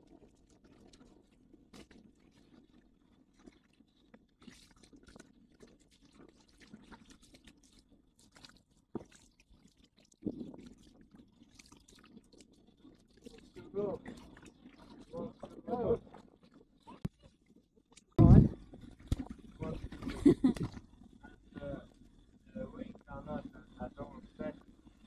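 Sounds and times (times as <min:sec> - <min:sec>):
small clicks and crackles: 0:00.0 - 0:25.0
water splashing and sloshing: 0:00.1 - 0:21.2.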